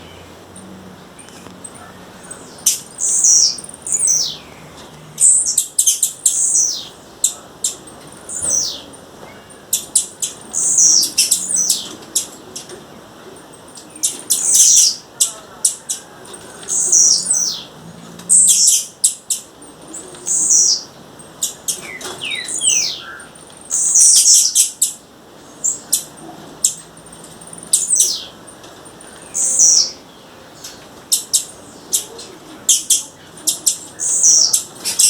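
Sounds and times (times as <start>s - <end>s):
bird chirping calls: 0.0s - 35.0s.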